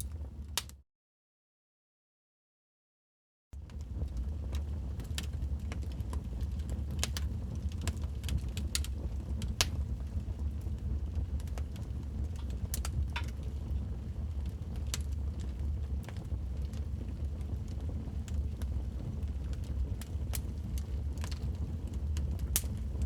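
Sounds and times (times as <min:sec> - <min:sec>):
wood fire crackling and popping: 0:00.0 - 0:00.7, 0:03.6 - 0:23.0.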